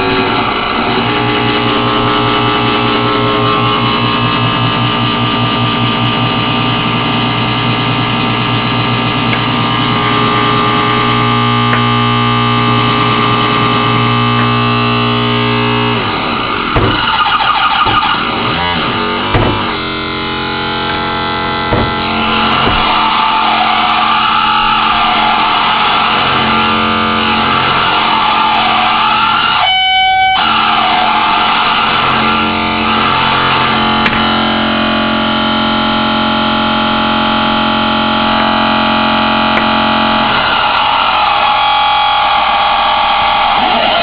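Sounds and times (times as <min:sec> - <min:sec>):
synthesizer drone: 0:00.0 - 0:44.0.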